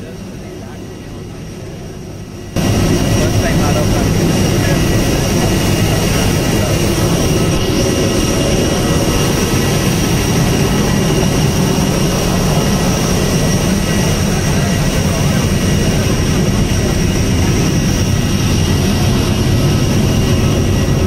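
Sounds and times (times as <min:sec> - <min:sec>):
jet engines roaring and whining: 0:00.0 - 0:21.0.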